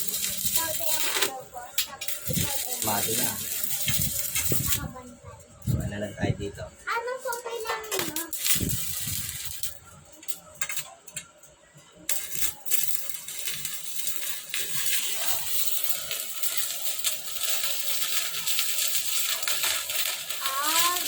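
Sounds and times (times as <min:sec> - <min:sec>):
welding arc crackling sizzle: 0:00.0 - 0:21.0.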